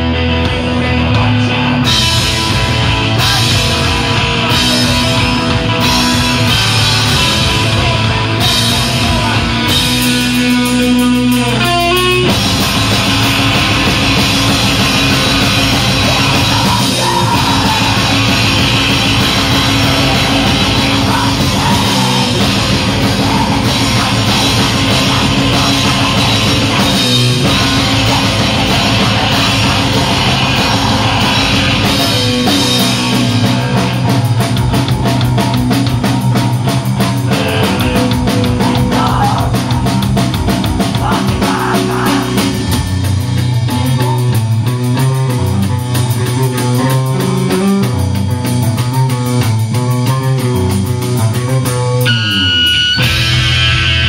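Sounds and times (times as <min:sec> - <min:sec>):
bass guitar: 0:00.0 - 0:54.0
distorted electric guitar: 0:00.0 - 0:54.0
drum kit: 0:00.0 - 0:54.0.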